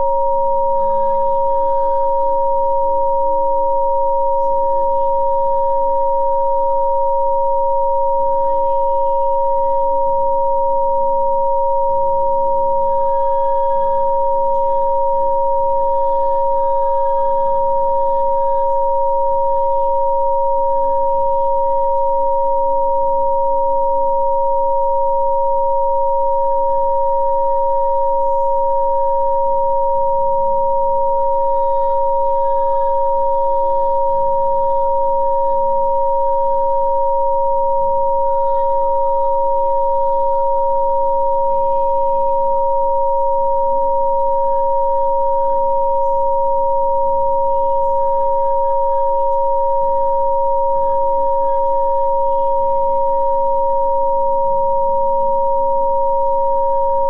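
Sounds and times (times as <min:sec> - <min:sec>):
steady pure electronic tones: 0:00.0 - 0:57.0.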